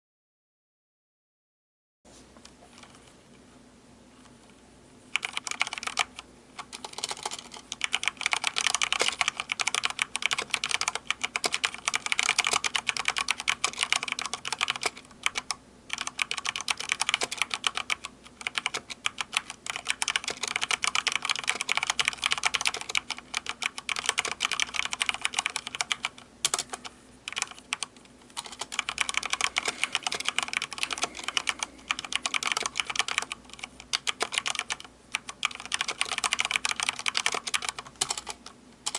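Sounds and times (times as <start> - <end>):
fast mechanical keyboard typing: 5.2 - 38.9.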